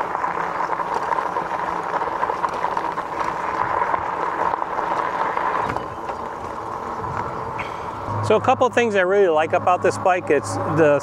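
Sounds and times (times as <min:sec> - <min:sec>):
bike tires on pavement: 0:00.0 - 0:11.0
electric bike whine: 0:00.0 - 0:11.0.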